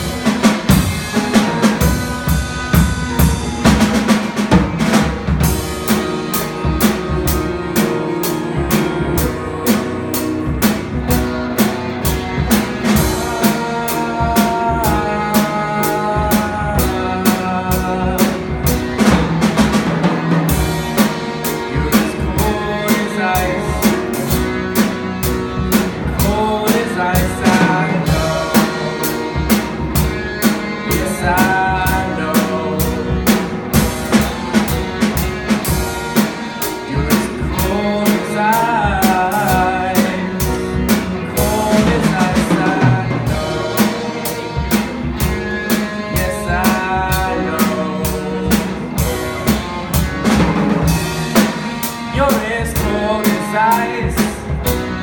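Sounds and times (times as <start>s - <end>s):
drum kit beat: 0.0s - 55.0s
electric guitar: 0.0s - 55.0s
person singing: 0.0s - 55.0s.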